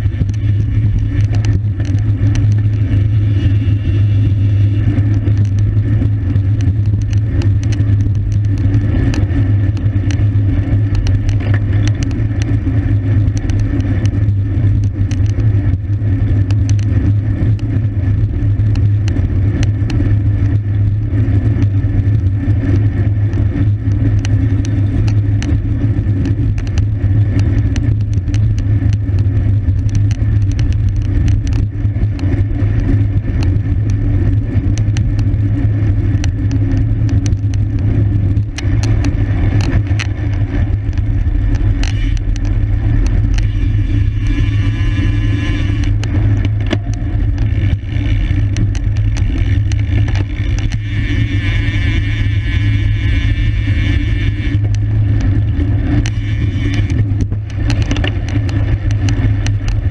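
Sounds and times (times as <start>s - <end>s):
bicycle clicks and rattles: 0.0s - 59.9s
wind rush on microphone: 0.0s - 59.9s.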